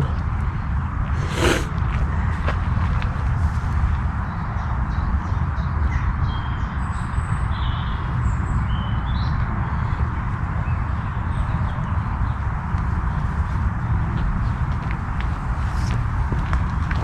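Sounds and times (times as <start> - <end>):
low outdoor rumble: 0.0 - 5.8, 6.8 - 17.0.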